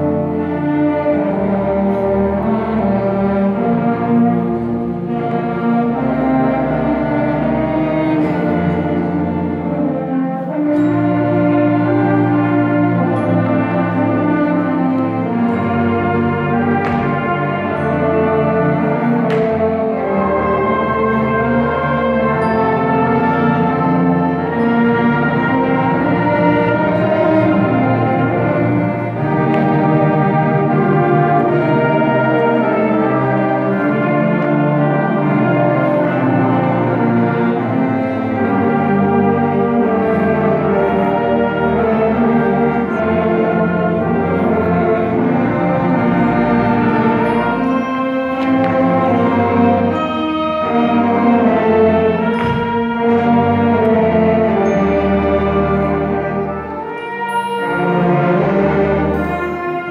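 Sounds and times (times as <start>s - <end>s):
school band playing: 0.0s - 59.9s.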